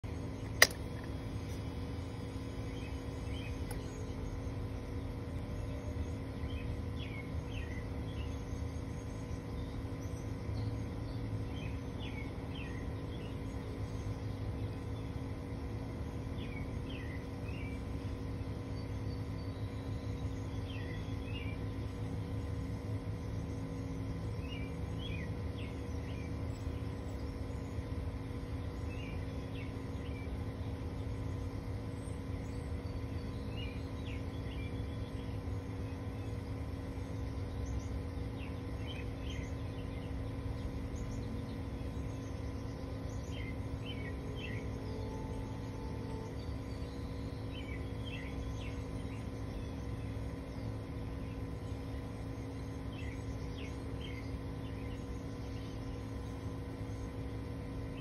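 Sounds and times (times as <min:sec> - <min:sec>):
birds chirping: 0:00.0 - 0:58.0
low background hum: 0:00.0 - 0:58.0.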